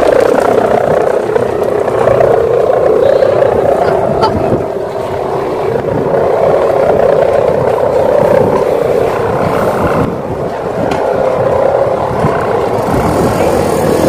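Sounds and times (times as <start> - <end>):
kite hummer droning: 0.0 - 14.0
low rumbling noise: 0.0 - 14.0.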